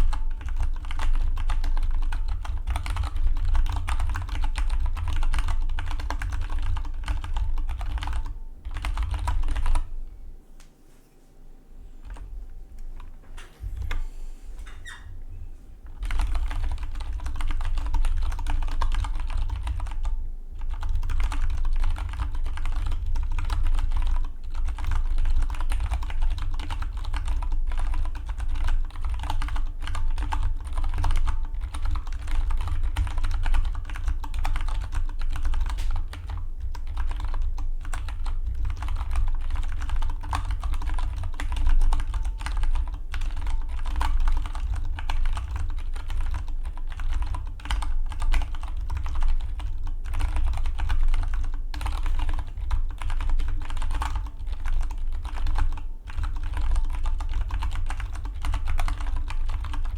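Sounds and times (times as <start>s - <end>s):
fast mechanical keyboard typing: 0.0s - 9.9s, 15.9s - 59.9s
steady low hum: 0.0s - 59.9s.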